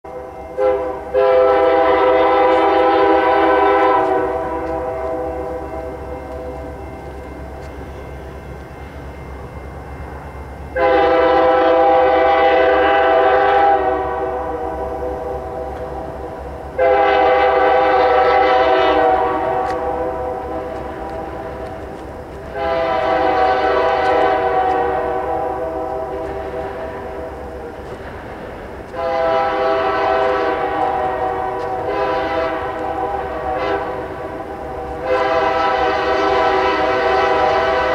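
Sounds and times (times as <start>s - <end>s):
low train rumble: 0.0s - 37.9s
locomotive horn blasts: 0.1s - 6.8s, 10.7s - 21.8s, 22.4s - 27.5s, 28.9s - 37.9s.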